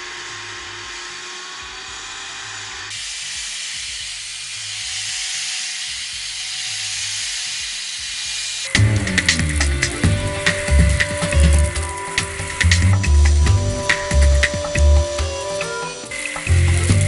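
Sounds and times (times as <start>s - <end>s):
stick vacuum running: 0.0s - 17.0s.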